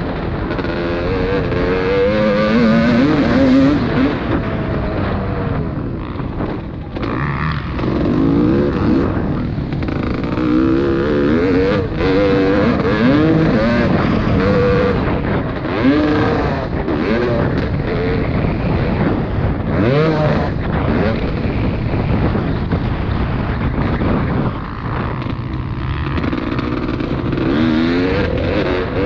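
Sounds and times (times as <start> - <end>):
motocross bike engines revving: 0.0 - 29.0.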